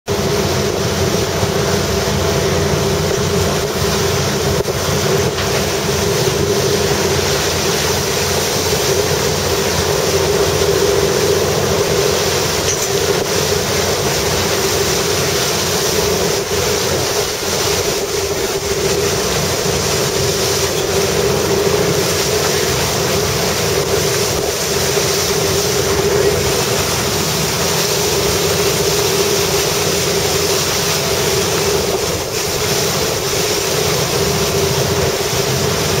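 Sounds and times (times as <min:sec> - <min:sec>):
boat engine droning: 0:00.0 - 0:36.0
water rushing along hull: 0:00.0 - 0:36.0
wind buffeting microphone: 0:00.1 - 0:36.0.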